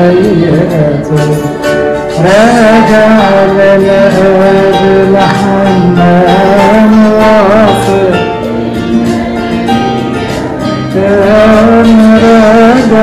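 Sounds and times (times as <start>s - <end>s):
man singing a hymn: 0.0s - 8.5s, 10.9s - 13.0s
instrumental accompaniment: 0.0s - 13.0s.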